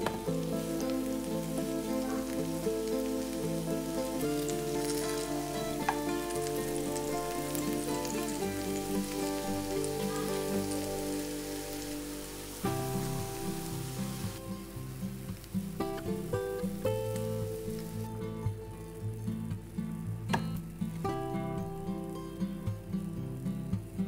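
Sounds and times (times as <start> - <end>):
food sizzling in oil: 0.0 - 20.2
background music with held notes: 0.0 - 24.0.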